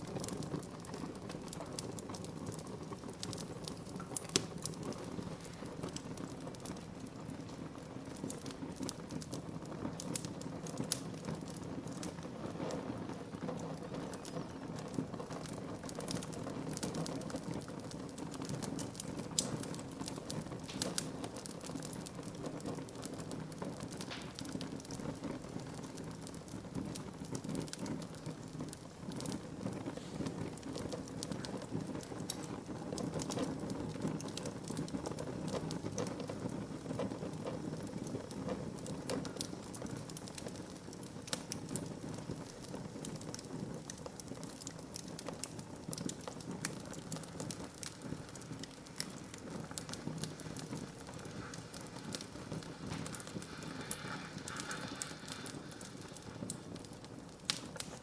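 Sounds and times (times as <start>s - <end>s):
burning logs crackling and popping: 0.0s - 58.0s
low rush of flames: 0.0s - 58.0s.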